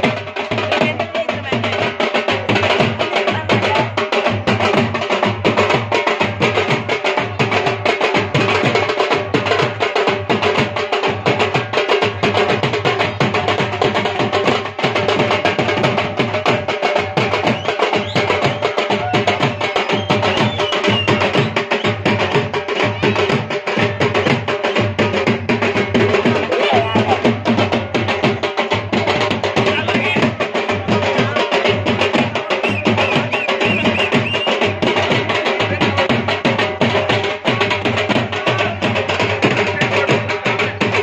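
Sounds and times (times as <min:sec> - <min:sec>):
drum in fast dance rhythm: 0:00.0 - 0:41.0.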